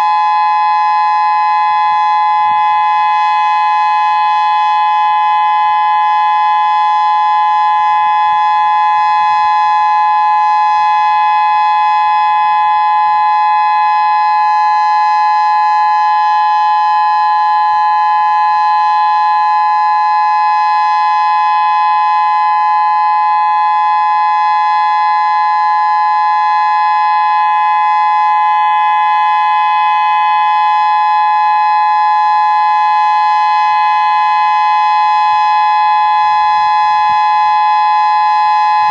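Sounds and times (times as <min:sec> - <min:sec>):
two-note warning siren: 0:00.0 - 0:38.9.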